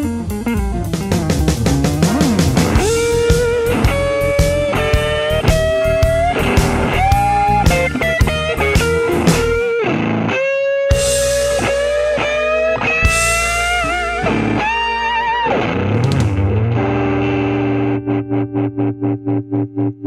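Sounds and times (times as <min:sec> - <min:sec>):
electric guitar lead line: 0:00.0 - 0:20.0.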